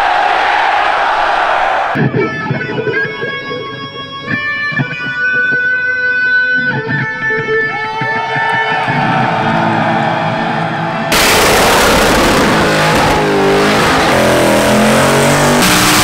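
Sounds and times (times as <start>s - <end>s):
electric guitar melody: 2.0s - 16.0s.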